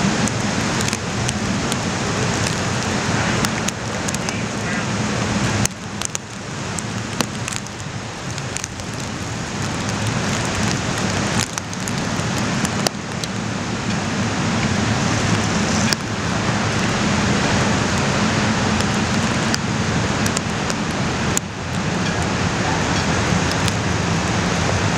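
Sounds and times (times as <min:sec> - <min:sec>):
wind and rain rushing: 0:00.0 - 0:24.9.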